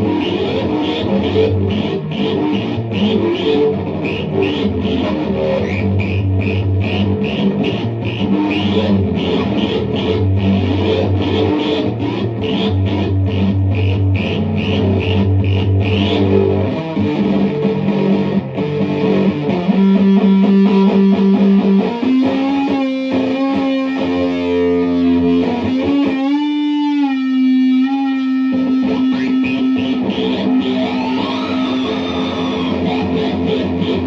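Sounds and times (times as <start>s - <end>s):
synth-like electric guitar: 0.0s - 34.0s.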